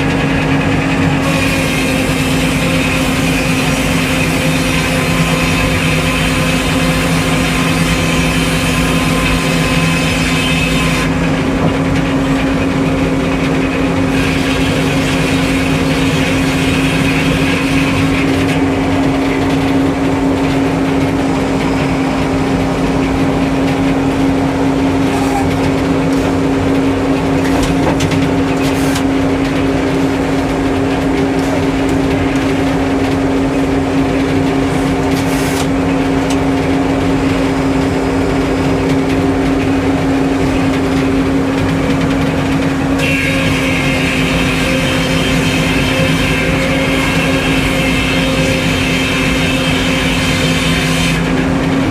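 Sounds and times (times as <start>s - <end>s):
sawmill engine running: 0.0s - 51.9s.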